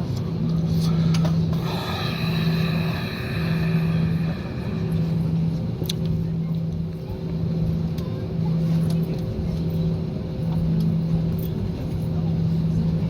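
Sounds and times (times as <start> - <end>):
vehicle engine pulsing hum: 0.0 - 13.0.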